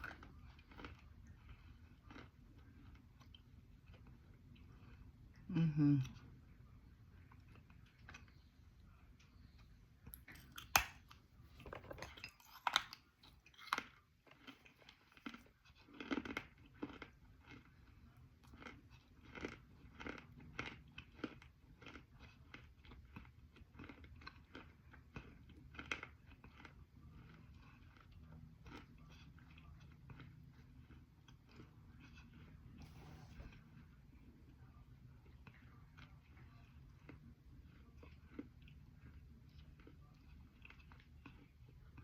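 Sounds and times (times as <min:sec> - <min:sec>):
crunchy clay bitten and chewed: 0:00.0 - 0:05.3, 0:10.0 - 0:32.6, 0:34.6 - 0:42.0.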